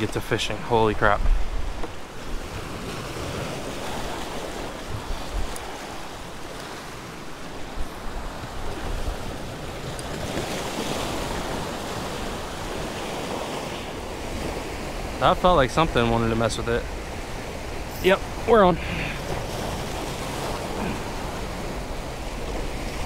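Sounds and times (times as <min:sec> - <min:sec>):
wind buffeting microphone: 0:00.9 - 0:23.0.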